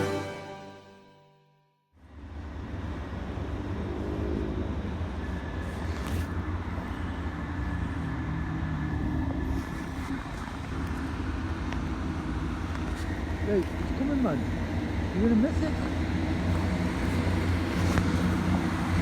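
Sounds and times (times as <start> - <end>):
low rumble of train: 2.0 - 19.0
traffic noise: 2.0 - 19.0.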